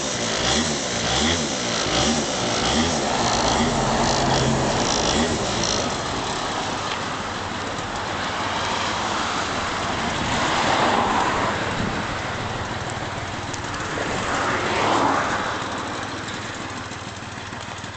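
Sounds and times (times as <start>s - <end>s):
scooter engine revving: 0.0s - 17.9s.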